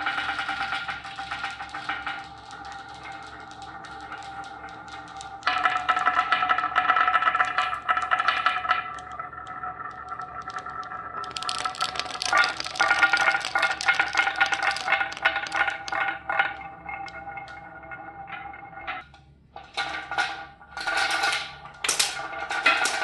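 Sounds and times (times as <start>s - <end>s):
marbles clicking down a marble run: 0.0s - 17.8s, 20.8s - 23.0s.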